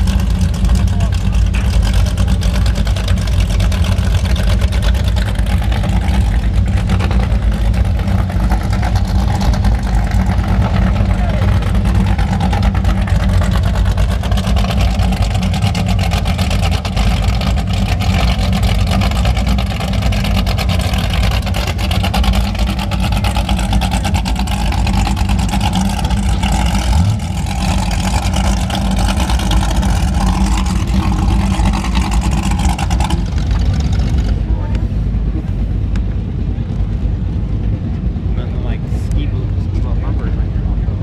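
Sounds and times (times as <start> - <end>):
powerboat engines idling: 0.0 - 41.0.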